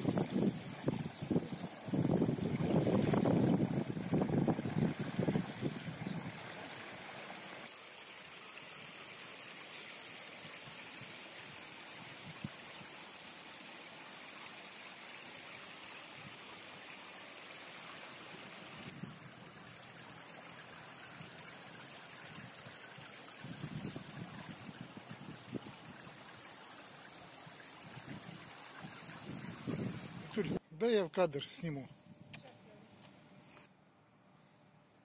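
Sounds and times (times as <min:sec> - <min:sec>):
water running and trickling: 0:00.0 - 0:30.6.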